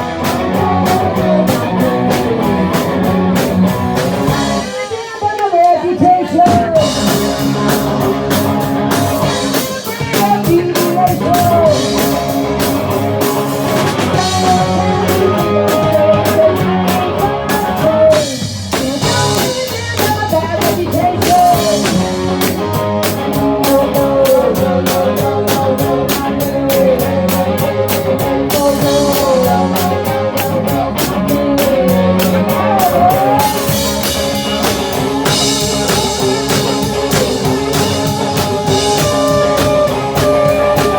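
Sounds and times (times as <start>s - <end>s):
person singing: 0.0s - 3.4s, 4.2s - 40.9s
drum kit: 0.0s - 40.9s
guitar: 0.0s - 40.9s
live rock band playing: 0.0s - 40.9s.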